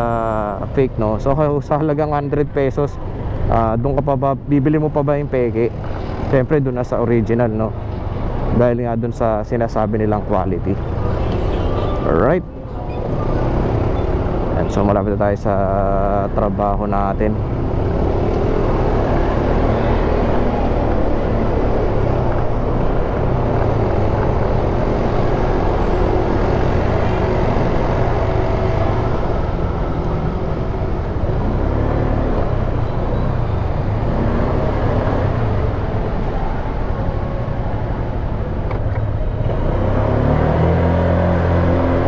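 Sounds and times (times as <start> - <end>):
road and wind noise: 0.0 - 42.0.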